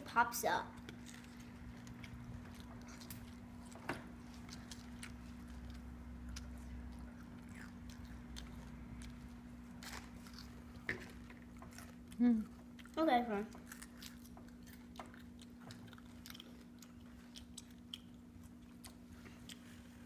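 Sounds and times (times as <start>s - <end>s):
low steady hum: 0.0s - 20.0s
child chewing crunchy food: 0.5s - 20.0s.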